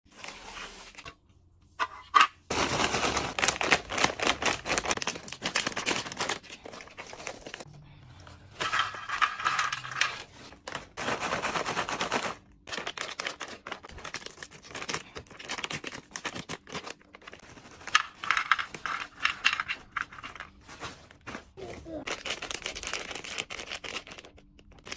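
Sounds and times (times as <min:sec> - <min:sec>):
plastic snack packets crinkling: 0:02.5 - 0:07.7, 0:08.6 - 0:24.9.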